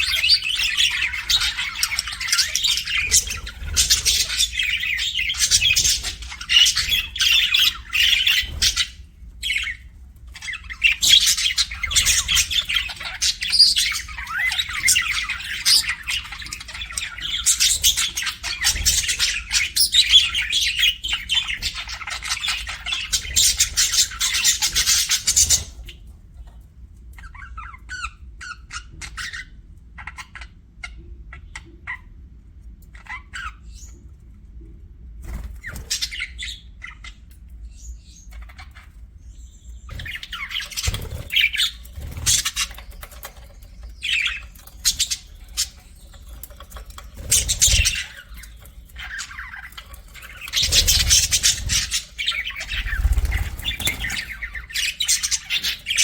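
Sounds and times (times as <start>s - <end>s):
budgerigars chattering and chirping: 0.0s - 34.2s, 35.2s - 56.0s.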